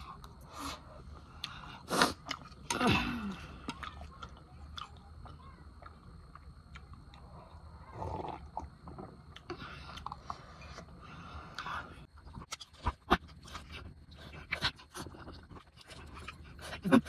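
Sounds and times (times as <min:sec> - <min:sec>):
person chewing noodles: 0:00.0 - 0:17.0.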